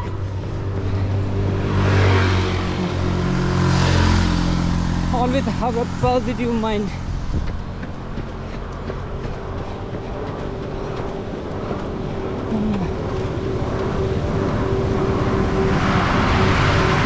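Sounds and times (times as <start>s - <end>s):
rushing noise: 0.0s - 17.0s
vehicle engine running: 0.0s - 17.0s.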